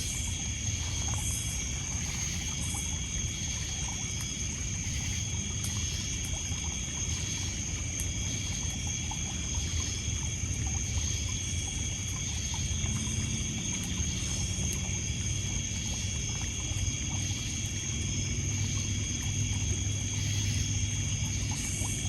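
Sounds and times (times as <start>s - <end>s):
crickets and night insects: 0.0s - 22.0s
water lapping on pebbles: 0.1s - 22.0s.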